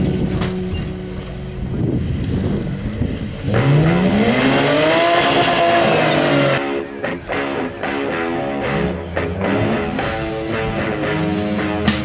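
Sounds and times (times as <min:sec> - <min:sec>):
buggy engine revving: 0:00.0 - 0:12.0.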